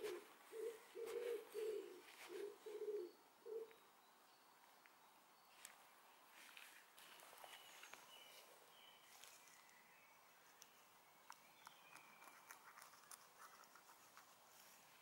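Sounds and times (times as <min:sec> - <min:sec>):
faint bird chirps: 0:00.1 - 0:06.4, 0:07.1 - 0:13.8.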